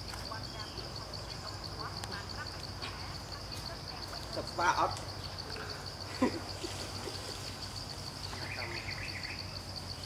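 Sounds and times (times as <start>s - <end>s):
insect chirring: 0.0s - 10.0s.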